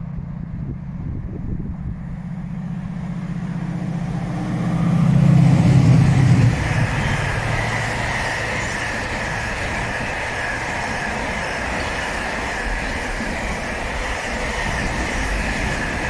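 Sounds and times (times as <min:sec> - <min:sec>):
diesel locomotive engine passing: 0:00.0 - 0:16.0
wagons rumbling on rails: 0:00.0 - 0:16.0.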